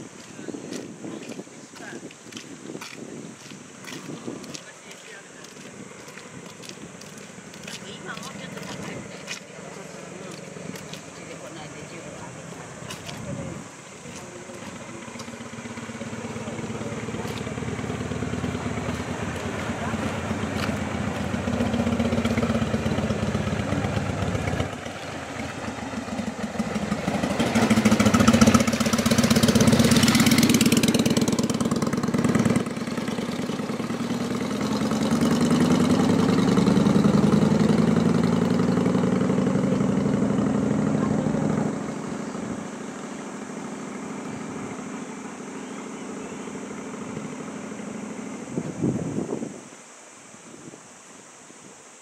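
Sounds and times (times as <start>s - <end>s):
vehicle engines passing: 0.0s - 49.3s.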